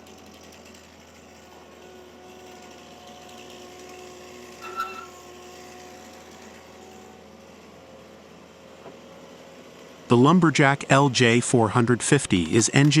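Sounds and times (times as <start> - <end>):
tree-felling machine humming: 0.0 - 13.0.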